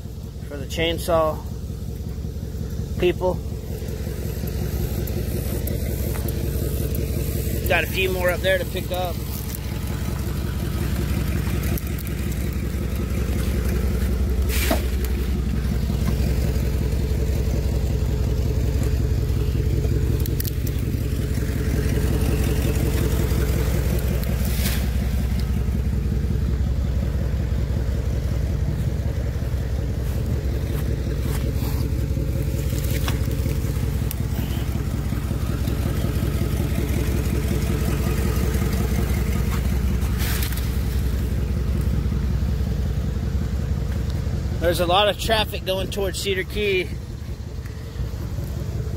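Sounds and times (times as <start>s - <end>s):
pickup truck engine idling: 0.0s - 48.9s.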